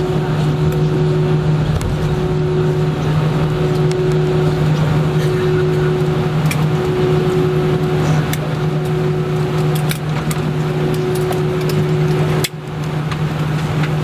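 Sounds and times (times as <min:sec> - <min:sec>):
aircraft cabin hum: 0:00.0 - 0:14.0.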